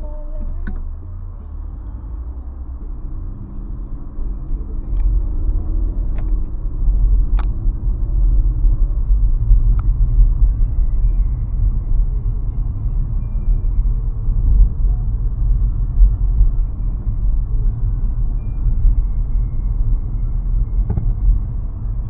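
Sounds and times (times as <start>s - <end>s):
car cabin road rumble: 0.0s - 22.0s.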